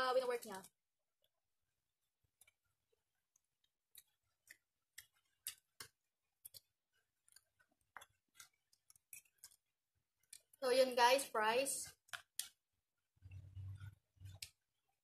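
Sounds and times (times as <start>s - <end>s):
person chewing food: 1.2s - 10.6s, 11.9s - 15.0s.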